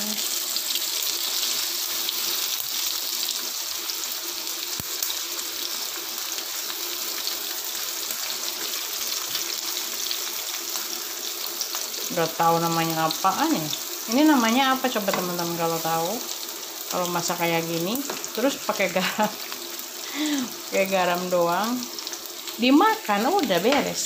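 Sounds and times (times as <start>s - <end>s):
pumpkin sizzling in hot oil: 0.0s - 24.0s.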